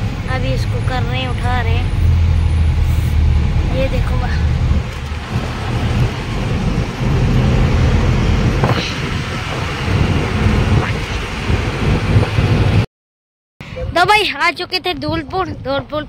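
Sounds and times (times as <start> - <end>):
truck road and engine noise: 0.0 - 12.9, 13.6 - 16.0
wind rumbling on microphone: 0.0 - 12.9, 13.6 - 16.0.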